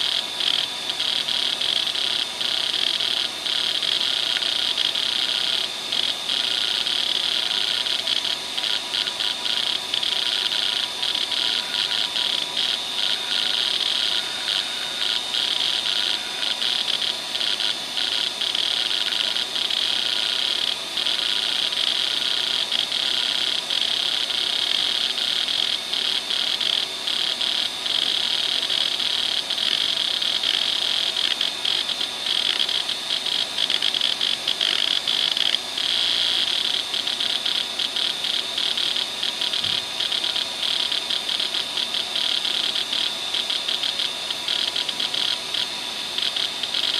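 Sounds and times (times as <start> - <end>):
hard drive heads chattering: 0.0 - 46.9
hard drive spinning whine: 0.0 - 46.9.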